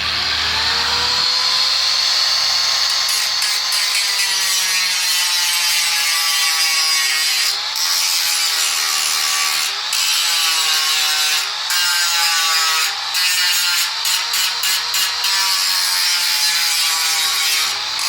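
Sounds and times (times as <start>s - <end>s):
file rasping on metal: 3.0s - 18.0s.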